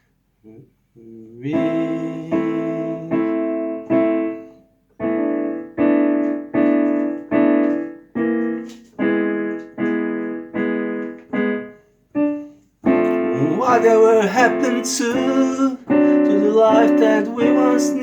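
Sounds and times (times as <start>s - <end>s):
keyboard block chords: 1.5s - 18.0s.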